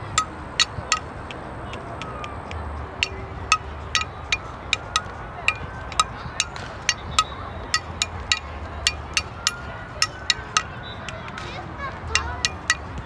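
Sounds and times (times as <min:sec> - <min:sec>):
sharp ringing clinks: 0:00.0 - 0:11.4, 0:12.1 - 0:13.0.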